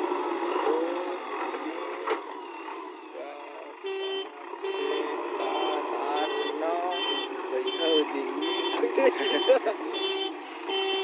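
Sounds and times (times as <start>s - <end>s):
backhoe engine running: 0.0s - 11.0s.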